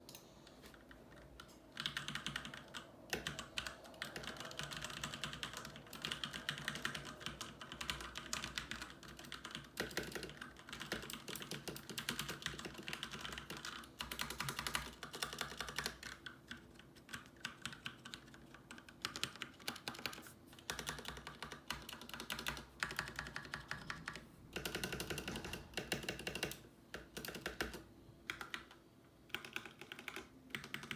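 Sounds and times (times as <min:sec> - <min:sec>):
mechanical keyboard typing: 0:00.1 - 0:30.9.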